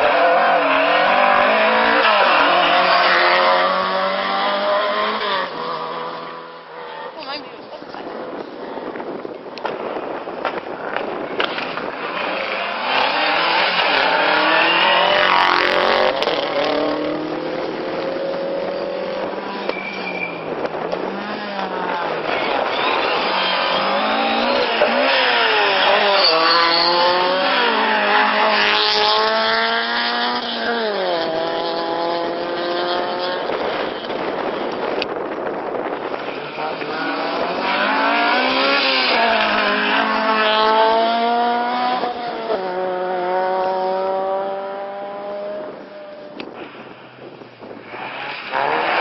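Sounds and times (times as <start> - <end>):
rally car engine revving and shifting: 0.0 - 7.0, 9.6 - 49.0.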